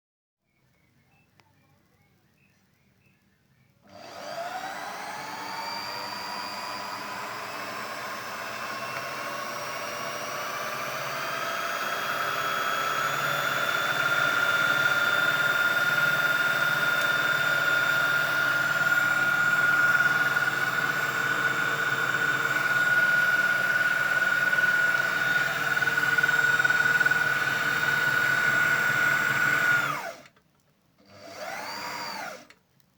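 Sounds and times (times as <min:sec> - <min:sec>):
brief whir: 0:03.8 - 0:30.4, 0:31.1 - 0:32.6
scroll saw motor whine: 0:03.8 - 0:30.4, 0:31.1 - 0:32.5.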